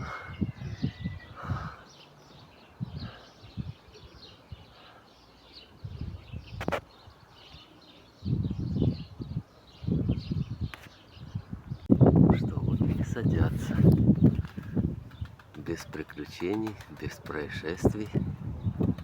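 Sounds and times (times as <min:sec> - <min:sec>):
wind buffeting microphone: 0:00.0 - 0:04.7, 0:05.7 - 0:07.0, 0:08.2 - 0:19.0
birds chirping faintly: 0:00.0 - 0:19.0.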